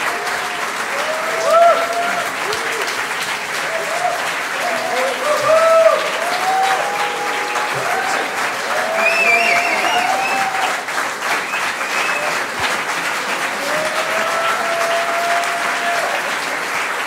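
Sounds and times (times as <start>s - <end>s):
audience applauding: 0.0s - 17.0s
crowd cheering: 0.0s - 17.0s.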